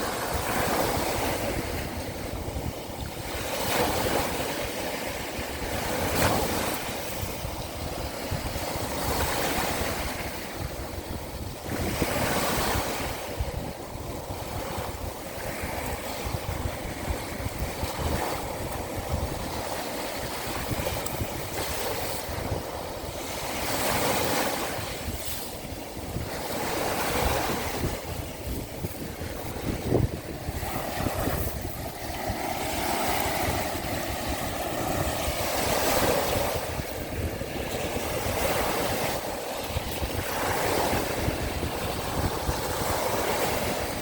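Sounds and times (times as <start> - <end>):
sea waves washing onto shore: 0.0 - 44.0
wind buffeting microphone: 0.0 - 44.0.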